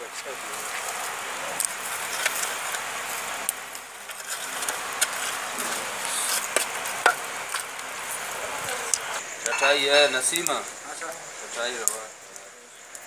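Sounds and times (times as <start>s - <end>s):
meat sizzling on charcoal grill: 0.0s - 13.0s.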